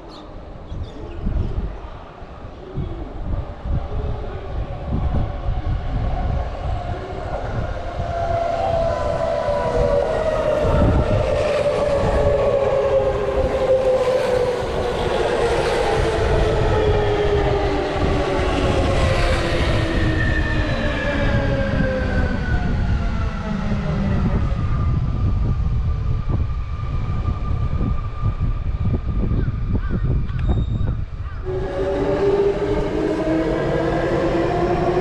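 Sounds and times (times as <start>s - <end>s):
wheels rumbling on rail: 1.2s - 35.0s.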